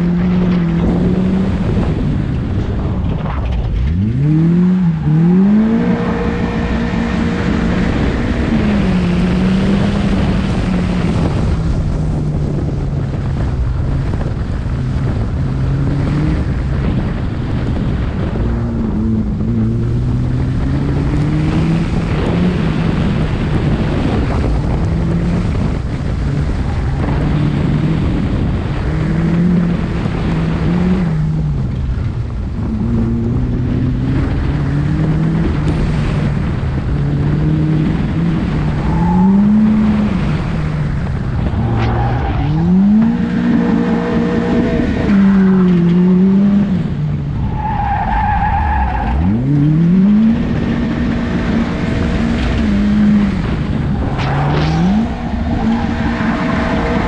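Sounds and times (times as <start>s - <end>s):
car engine revving hard: 3.9s - 11.8s, 14.3s - 31.4s, 32.7s - 47.0s, 47.6s - 57.0s.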